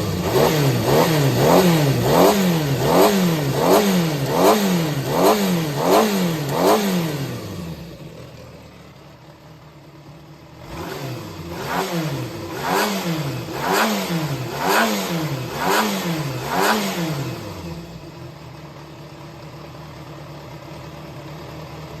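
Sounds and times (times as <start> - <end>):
engine revving and idling: 0.0 - 22.0.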